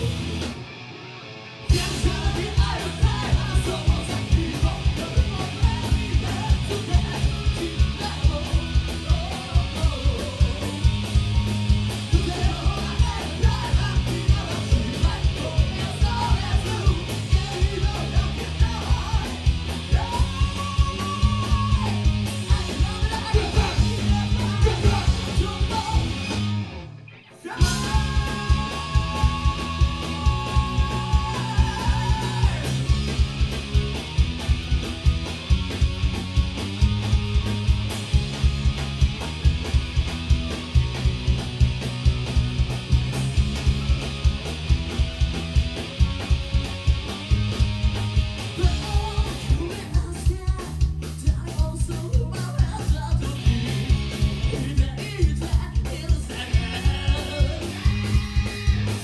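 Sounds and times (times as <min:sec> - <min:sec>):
distorted electric guitars: 0:00.0 - 0:59.0.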